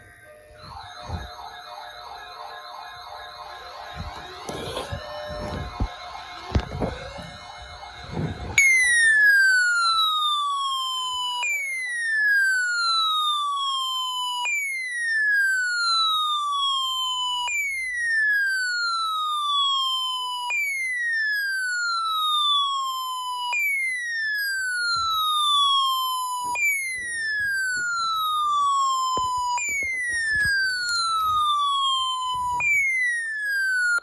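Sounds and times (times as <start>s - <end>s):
electronic siren sweeping down: 0.0s - 34.0s.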